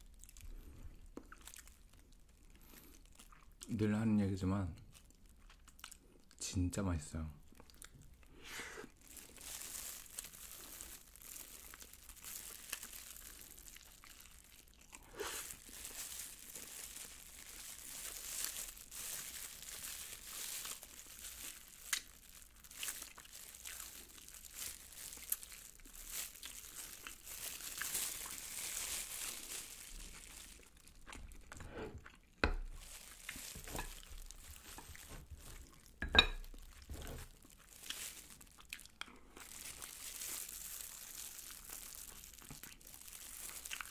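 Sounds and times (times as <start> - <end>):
crunching and wet chewing: 0.0 - 6.4, 7.4 - 43.9
plastic glove crinkling: 0.0 - 31.6, 32.2 - 43.9.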